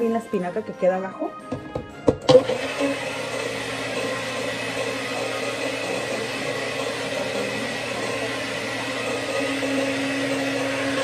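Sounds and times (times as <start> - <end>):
blender motor whining: 1.4 - 11.0.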